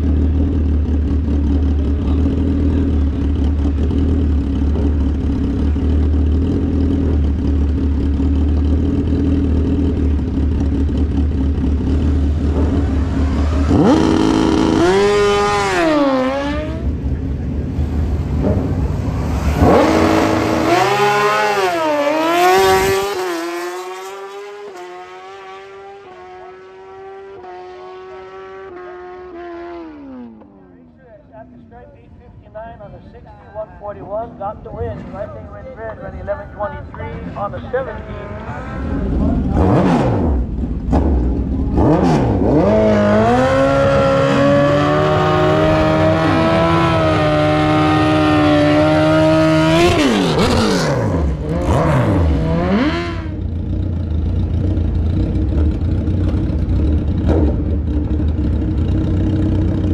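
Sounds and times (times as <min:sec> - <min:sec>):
motorcycle engine revving: 0:00.0 - 0:30.8, 0:37.6 - 0:59.9.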